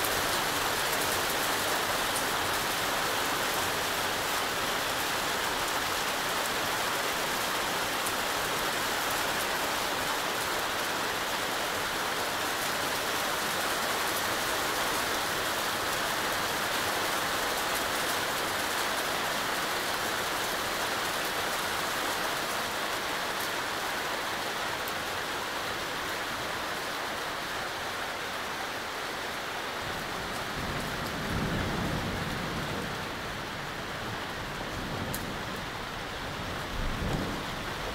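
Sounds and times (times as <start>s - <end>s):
heavy rain pouring: 0.0s - 37.9s.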